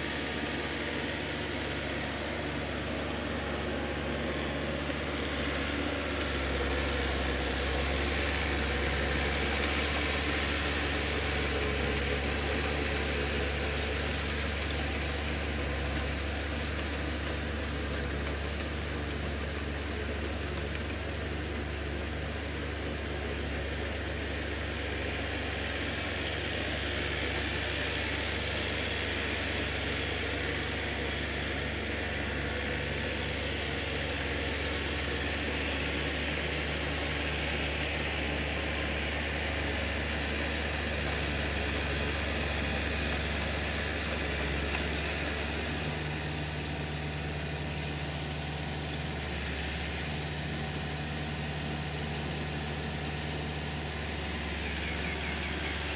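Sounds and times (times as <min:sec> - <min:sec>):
tiller churning mud: 0:00.0 - 0:55.9
tractor diesel engine running: 0:00.0 - 0:55.9.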